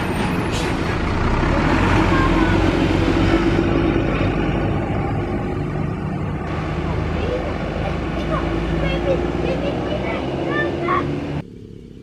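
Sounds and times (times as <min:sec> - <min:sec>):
bus engine running: 0:00.0 - 0:11.9
road traffic: 0:00.0 - 0:12.0.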